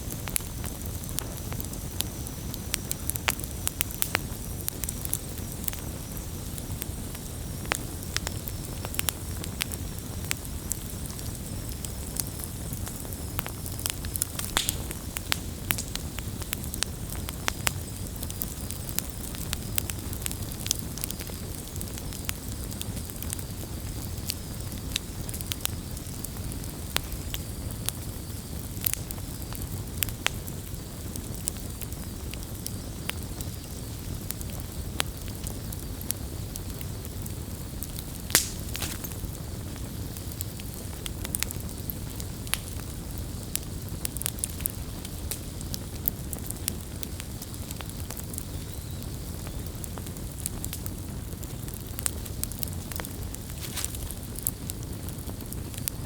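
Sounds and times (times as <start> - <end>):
wood campfire crackling: 0.0 - 56.0.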